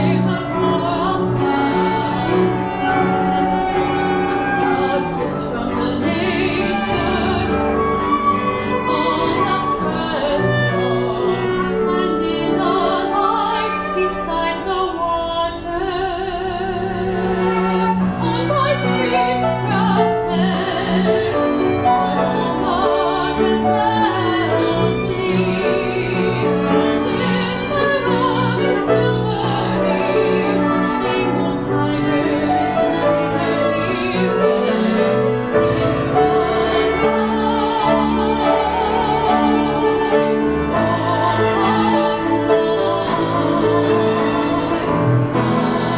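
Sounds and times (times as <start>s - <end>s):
woman singing with vibrato: 0.0s - 3.0s, 4.3s - 45.9s
chamber ensemble playing: 0.0s - 14.8s, 16.8s - 45.9s.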